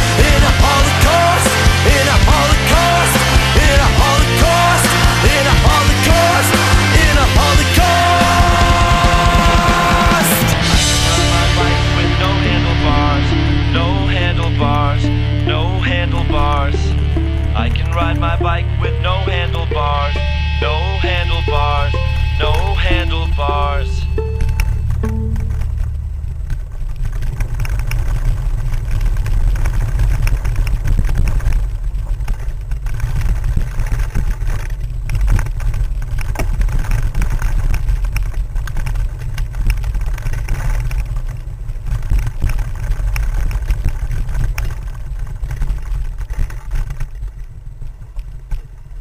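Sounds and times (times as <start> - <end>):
low rumble of bike vibration: 0.0 - 49.0.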